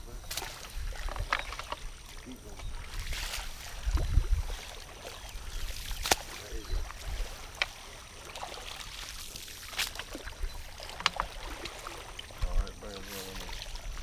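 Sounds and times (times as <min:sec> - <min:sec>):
net sloshing through water: 0:00.2 - 0:12.4.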